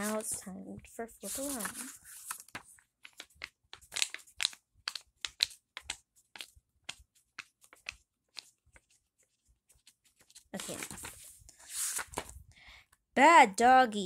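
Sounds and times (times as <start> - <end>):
book pages flipping: 0.0 - 12.4.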